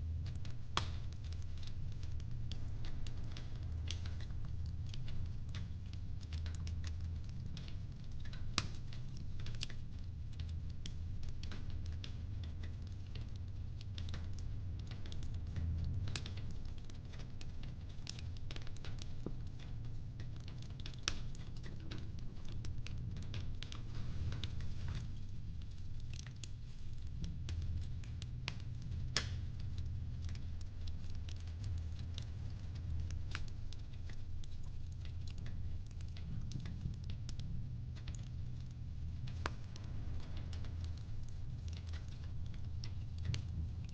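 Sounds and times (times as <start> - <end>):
fireplace crackling and popping: 0.0 - 43.9
low rumble of fire: 0.0 - 43.9.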